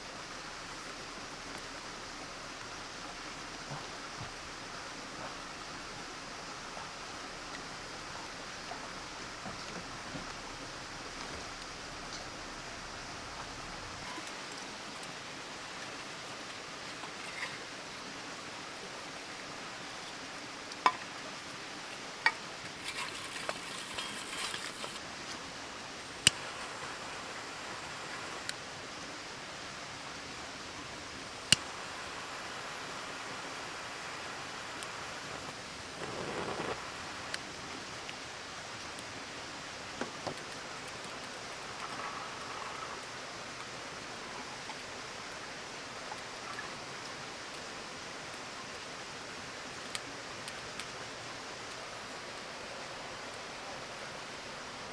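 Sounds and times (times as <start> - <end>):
campfire hissing: 0.0 - 54.9.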